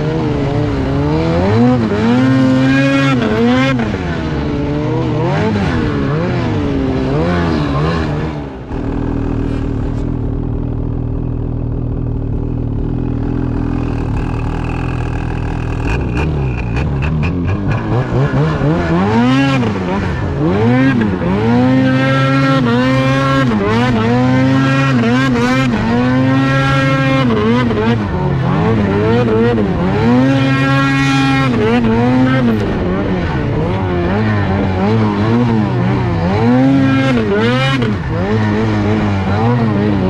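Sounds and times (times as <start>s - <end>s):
snowmobile engine revving: 0.0s - 40.0s.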